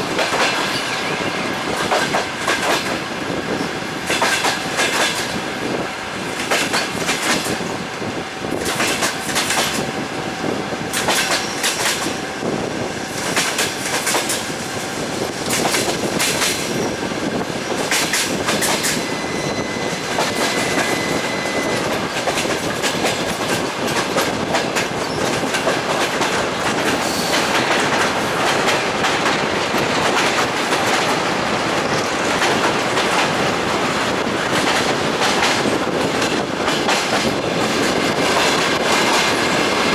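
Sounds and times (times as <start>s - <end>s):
train wheels clattering over rail joints: 0.0s - 5.5s, 6.2s - 10.0s, 10.8s - 12.2s, 13.0s - 19.1s, 20.0s - 39.9s
train rolling rumble: 0.0s - 39.9s.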